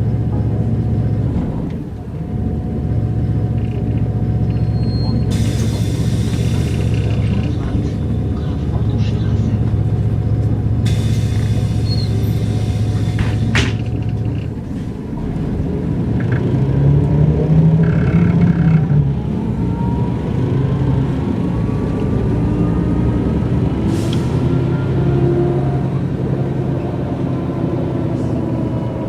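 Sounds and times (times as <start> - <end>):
bus engine drone: 0.0 - 29.0.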